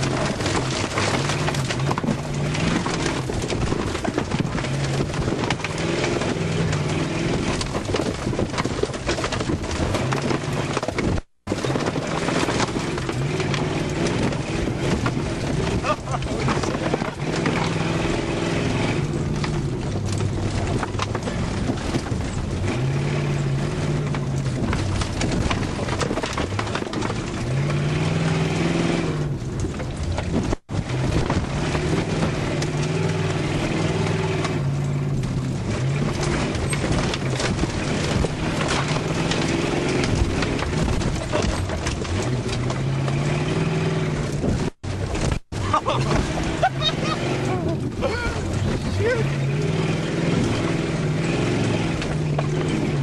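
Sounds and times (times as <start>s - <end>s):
car body rattling: 0.0s - 53.0s
car engine revving: 0.0s - 53.0s.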